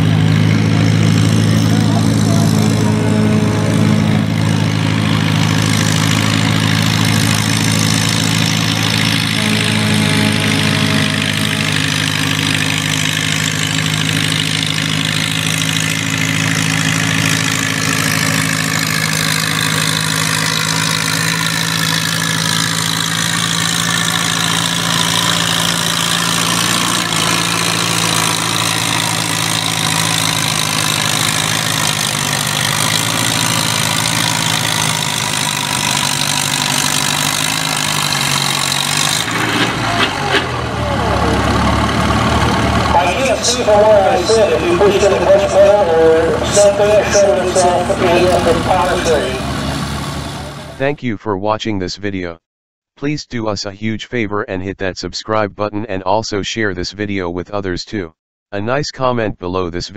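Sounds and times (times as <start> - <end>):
tractor engine running under load: 0.0 - 50.8.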